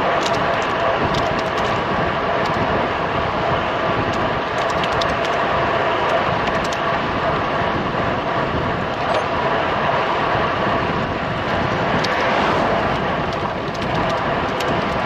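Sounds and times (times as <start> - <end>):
bike tyre noise on road: 0.0 - 15.0
wind rushing over microphone: 0.0 - 15.0.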